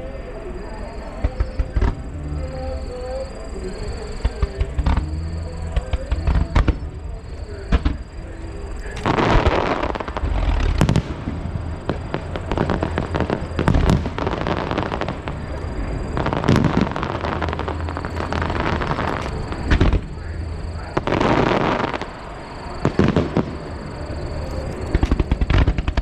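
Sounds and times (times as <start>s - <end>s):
fireworks bursting with sharp bangs: 1.1s - 26.0s
dense rushing noise: 1.2s - 26.0s.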